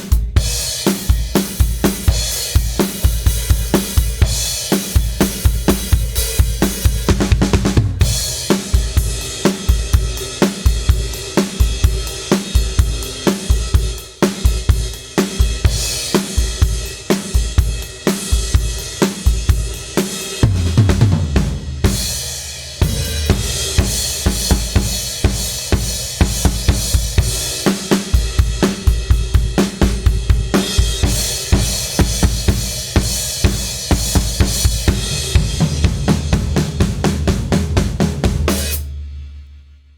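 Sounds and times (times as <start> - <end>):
drum kit playing fast groove: 0.0 - 39.5.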